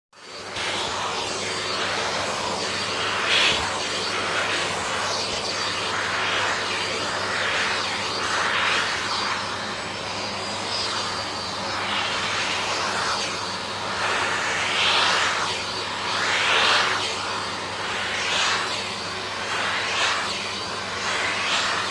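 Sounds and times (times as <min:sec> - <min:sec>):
vacuum cleaner running: 0:00.1 - 0:21.9.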